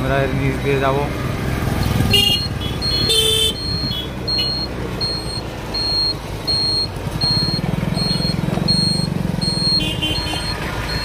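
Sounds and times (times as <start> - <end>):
engine and road noise: 0.0 - 11.0
vehicle warning beeper: 2.2 - 11.0.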